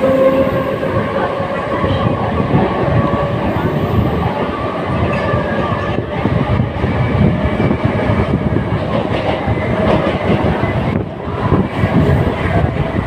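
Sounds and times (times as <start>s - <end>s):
train rumbling inside coach: 0.0s - 13.0s.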